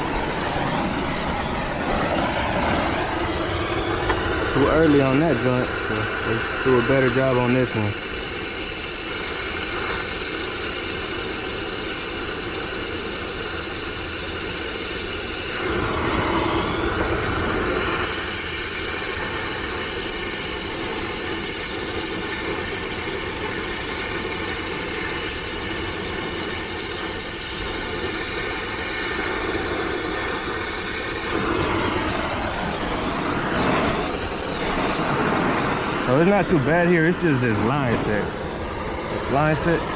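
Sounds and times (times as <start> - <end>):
engine-like hum: 0.0 - 39.9
torch flame hissing: 0.0 - 39.9.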